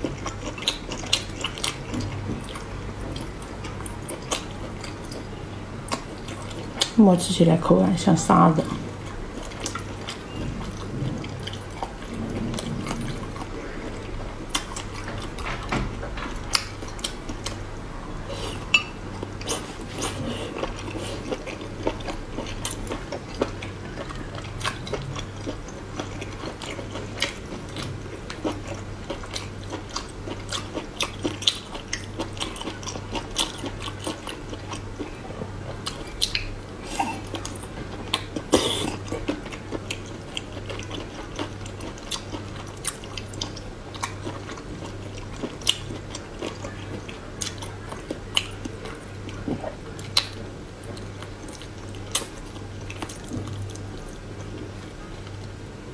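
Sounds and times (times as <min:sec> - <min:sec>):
chewing: 0:00.0 - 0:05.3, 0:08.6 - 0:17.6, 0:18.2 - 0:55.7
low steady hum: 0:00.0 - 0:55.9.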